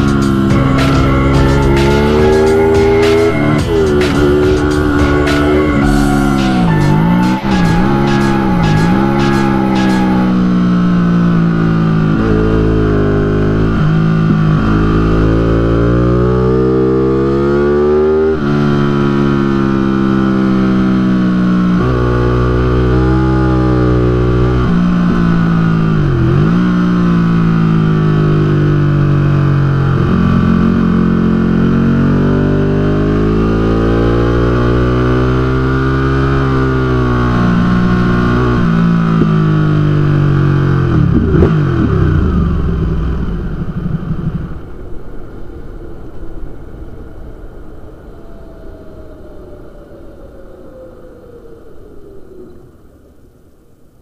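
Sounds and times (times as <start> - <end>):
motorcycle engine revving: 0.0 - 45.2.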